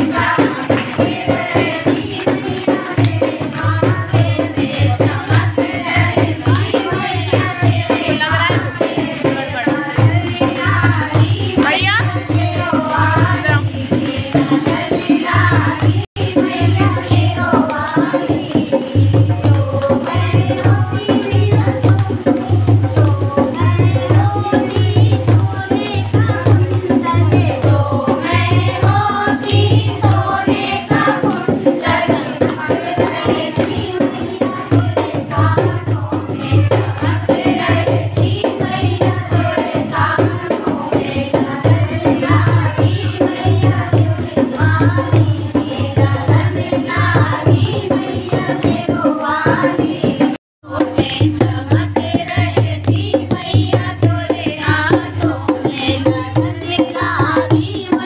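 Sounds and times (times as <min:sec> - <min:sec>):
hand drum beating: 0:00.0 - 0:58.0
women singing together: 0:00.0 - 0:58.0.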